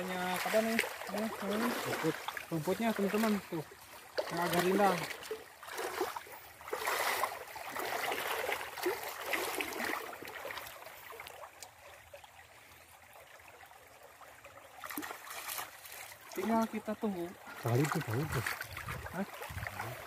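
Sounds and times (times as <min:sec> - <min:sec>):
stream trickling softly: 0:00.0 - 0:20.0
water sloshing: 0:00.0 - 0:20.0.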